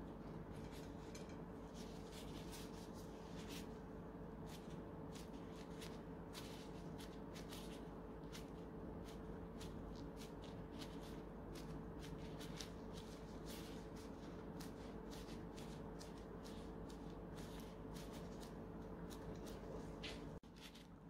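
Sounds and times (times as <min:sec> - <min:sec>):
plastic gloves crinkling: 0:00.0 - 0:21.0
steady low hum: 0:00.0 - 0:21.0.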